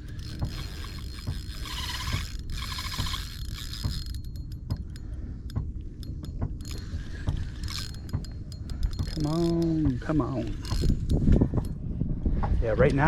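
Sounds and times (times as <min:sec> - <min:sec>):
fishing reel clicking: 0:00.0 - 0:11.8.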